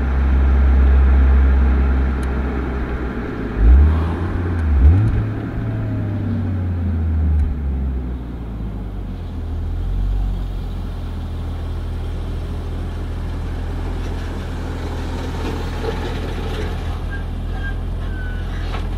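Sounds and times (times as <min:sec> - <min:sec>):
car exhaust drone: 0:00.0 - 0:18.9.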